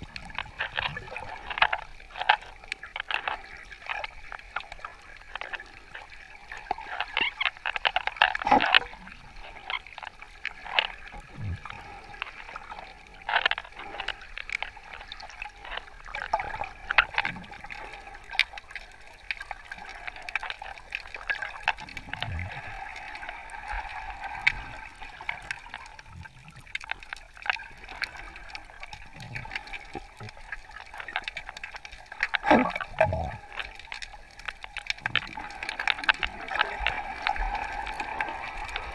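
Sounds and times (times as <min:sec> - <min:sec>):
underwater clicks and crackles: 0:00.0 - 0:38.9.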